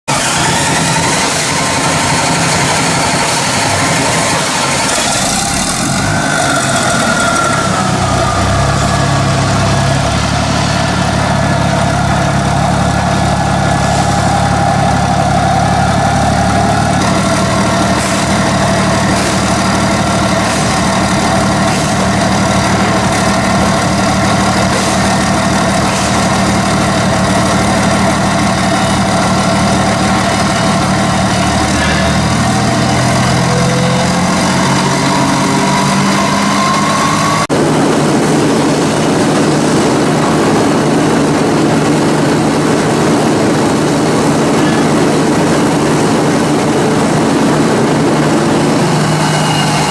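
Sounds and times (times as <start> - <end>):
generator engine running: 0.0 - 49.9
loud machinery noise: 0.0 - 49.9.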